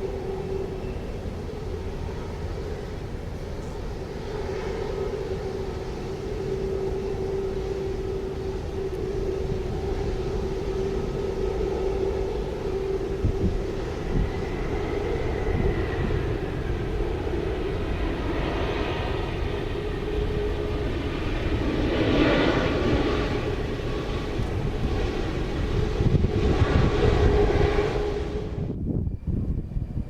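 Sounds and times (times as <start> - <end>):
airliner engines droning: 0.0 - 30.0.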